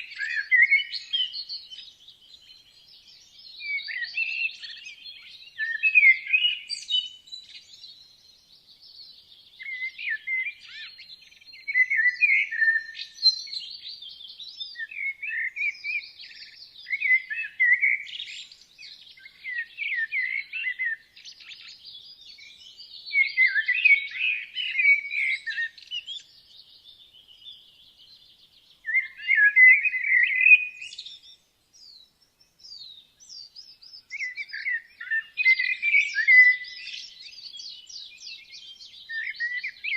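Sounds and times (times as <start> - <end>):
high thin birdsong: 0.0 - 39.9
songbird chirping phrases: 0.0 - 39.9.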